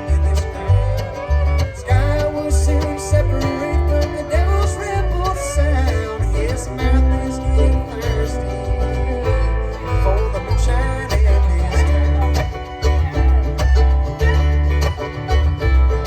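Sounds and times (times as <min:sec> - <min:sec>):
banjo: 0:00.0 - 0:16.0
bluegrass band playing: 0:00.0 - 0:16.0
guitar: 0:00.0 - 0:16.0
steady bass beat: 0:00.0 - 0:16.0.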